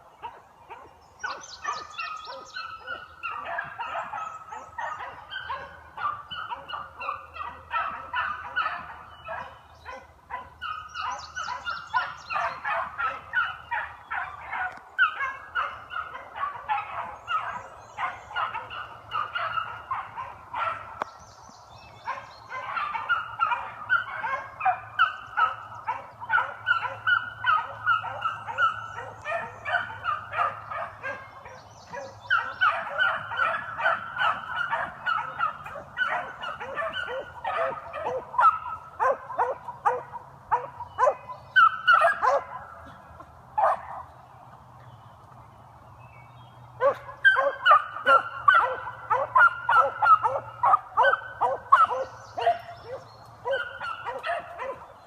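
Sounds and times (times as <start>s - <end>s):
hounds baying: 0.1s - 21.1s, 21.8s - 44.2s, 46.7s - 55.0s.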